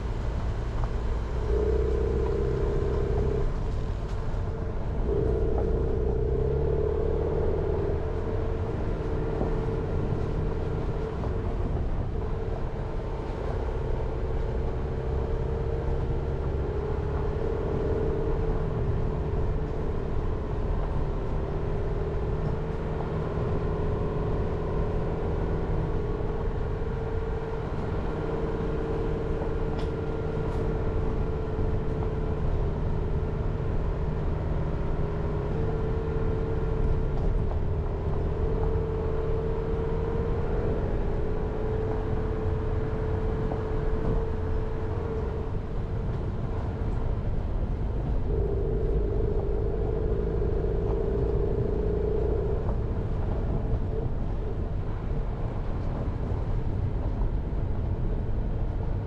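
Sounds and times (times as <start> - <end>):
car engine and road rumble: 0.0 - 59.0
steady hum: 0.0 - 59.0.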